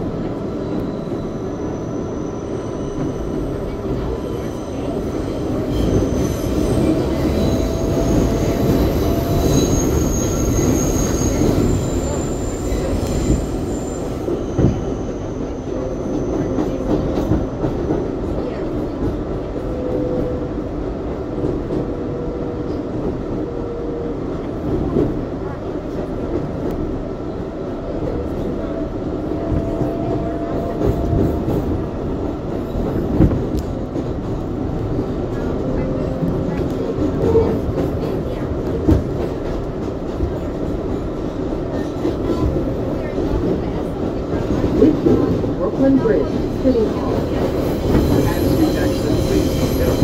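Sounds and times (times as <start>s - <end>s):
subway car wheels rumbling: 0.0s - 50.0s.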